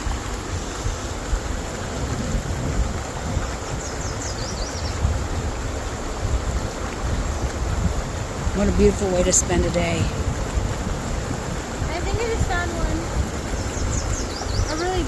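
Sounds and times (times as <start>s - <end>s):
shallow flowing water: 0.0s - 15.0s
wind buffeting microphone: 0.0s - 15.0s.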